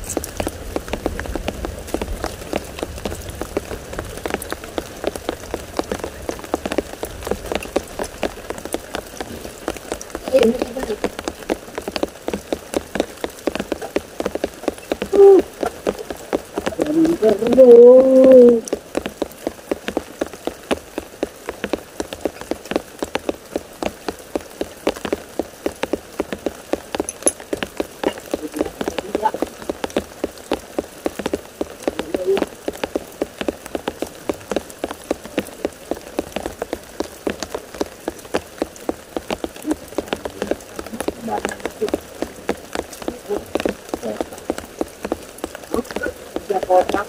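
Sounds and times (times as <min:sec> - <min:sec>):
light rain drops ticking: 0:00.0 - 0:47.0.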